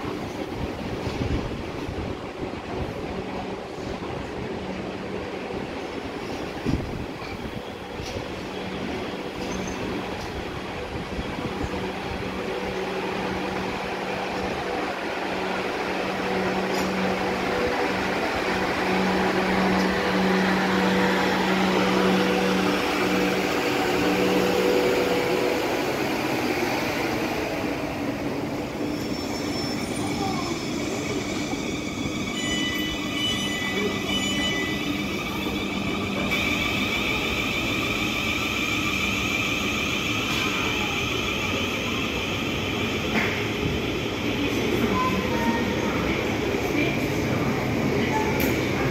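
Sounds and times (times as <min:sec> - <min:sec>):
electric train hum: 0:00.0 - 0:48.9.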